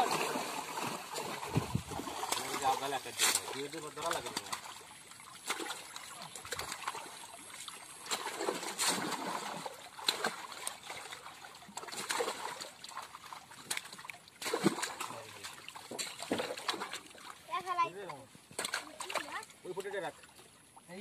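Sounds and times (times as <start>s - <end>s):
splashing pond water: 0.0s - 21.0s.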